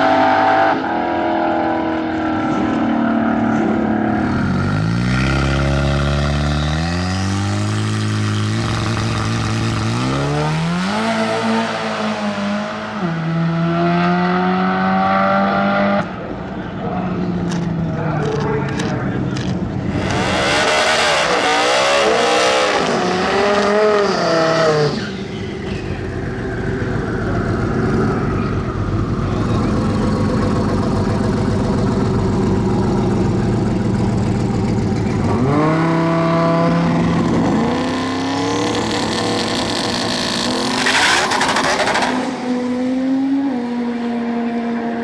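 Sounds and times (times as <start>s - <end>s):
racing car engines revving: 0.0s - 45.0s.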